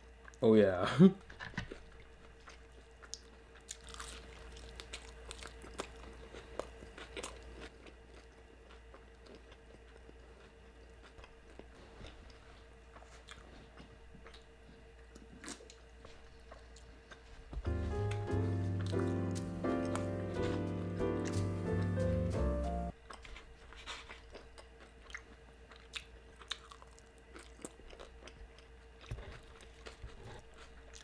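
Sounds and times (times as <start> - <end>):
chewing and biting food: 1.4 - 20.6, 22.9 - 31.0.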